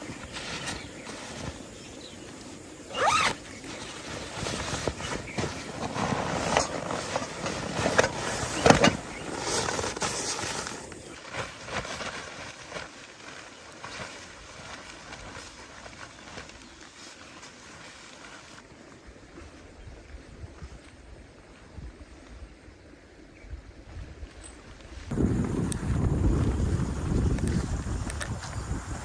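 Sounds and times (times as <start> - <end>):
tent rustling and handling: 0.0 - 22.4, 23.9 - 25.7.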